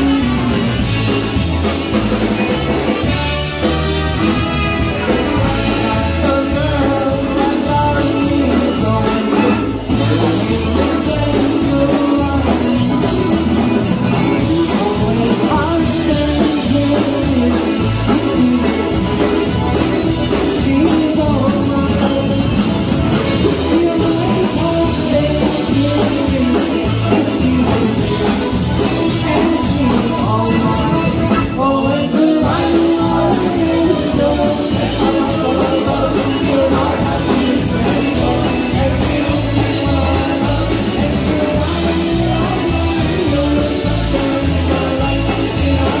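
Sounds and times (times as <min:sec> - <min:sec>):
person singing: 0:00.0 - 0:46.0
polka band playing: 0:00.0 - 0:46.0.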